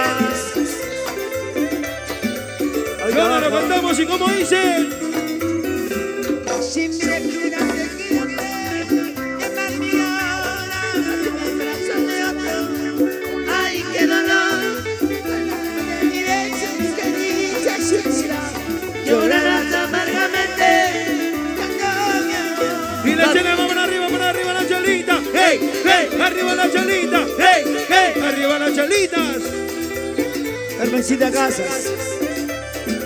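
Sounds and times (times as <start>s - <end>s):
cumbia band playing: 0.0s - 33.0s.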